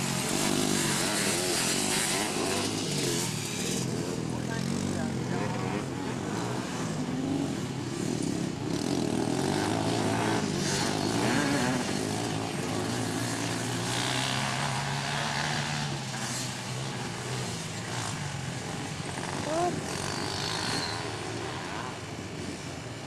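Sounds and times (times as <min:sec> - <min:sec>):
off-road racing engines revving: 0:00.0 - 0:23.0.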